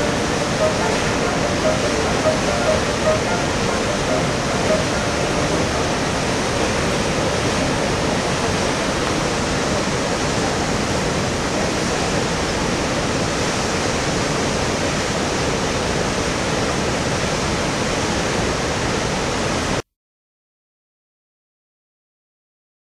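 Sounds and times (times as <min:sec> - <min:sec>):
rushing water: 0:00.0 - 0:19.8.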